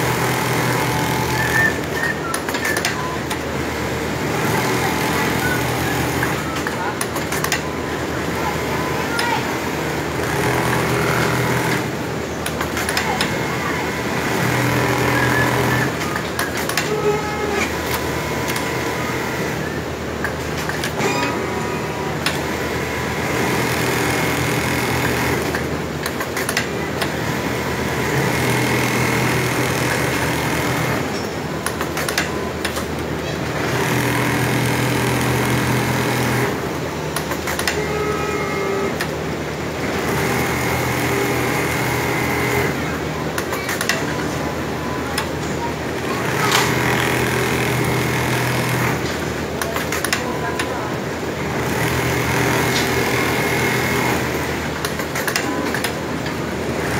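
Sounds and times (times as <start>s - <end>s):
factory machine noise: 0.0s - 56.9s
sewing machine stitching: 0.0s - 56.9s.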